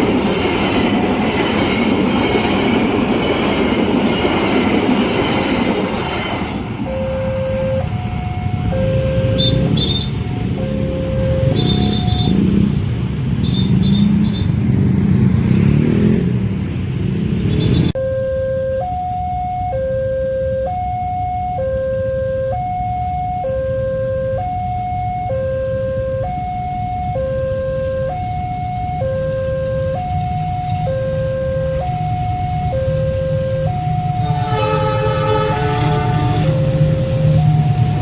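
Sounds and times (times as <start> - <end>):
passing train rumble: 0.0 - 18.0, 24.2 - 38.0
two-tone level crossing alarm: 0.4 - 12.7, 17.9 - 38.0.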